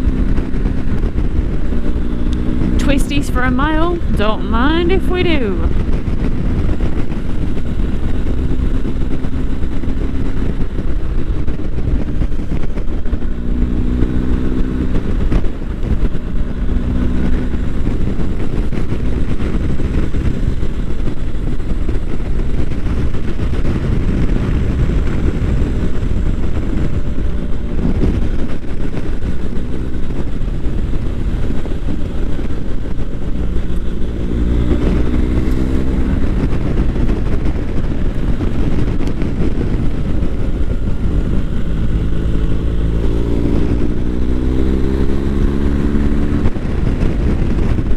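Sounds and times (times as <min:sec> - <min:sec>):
motorcycle engine accelerating: 0:00.0 - 0:47.9
wind and road noise: 0:00.0 - 0:47.9.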